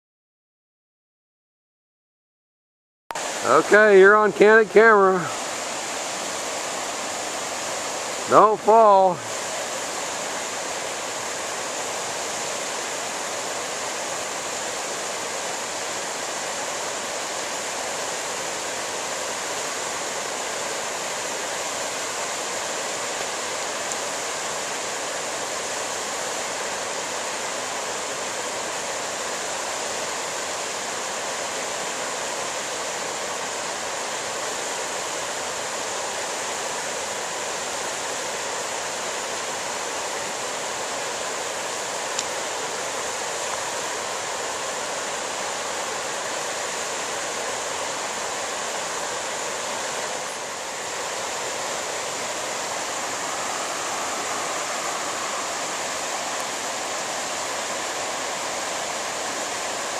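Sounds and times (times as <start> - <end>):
river rushing over boulders: 3.1 - 59.9.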